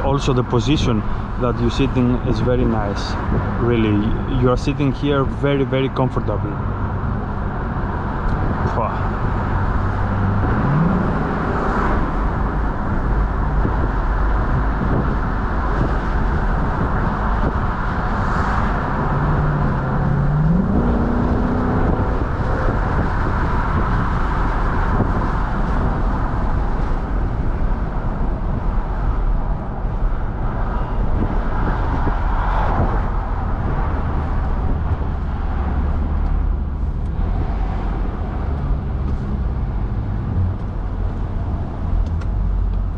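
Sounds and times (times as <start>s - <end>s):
wind and road noise: 0.0s - 42.9s
car engine accelerating: 6.5s - 42.9s.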